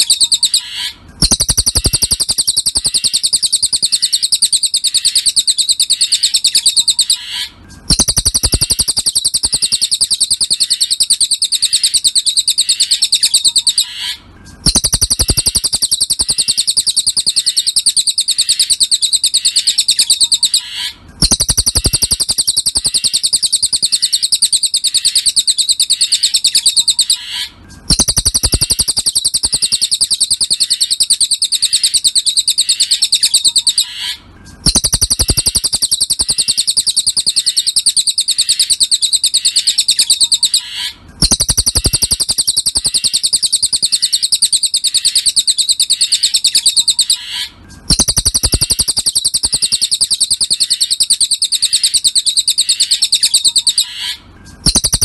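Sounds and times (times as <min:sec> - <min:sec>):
bird trilling chirps: 0:00.0 - 0:55.0.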